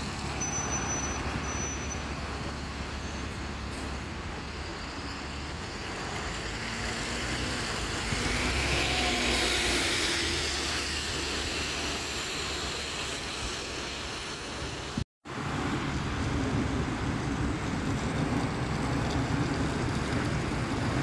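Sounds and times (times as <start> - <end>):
bus diesel engine: 0.0 - 21.0
tyres hissing on wet road: 0.0 - 21.0.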